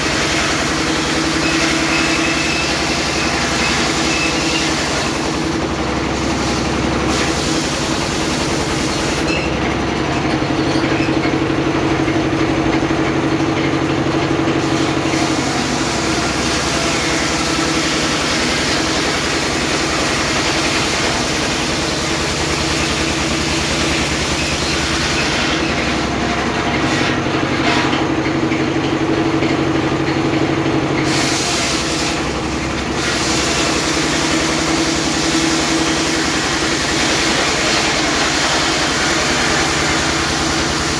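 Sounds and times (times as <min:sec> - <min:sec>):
saw whine: 0:00.0 - 0:10.0, 0:14.6 - 0:28.2, 0:31.1 - 0:40.9
circular sawmill engine drone: 0:00.0 - 0:40.9.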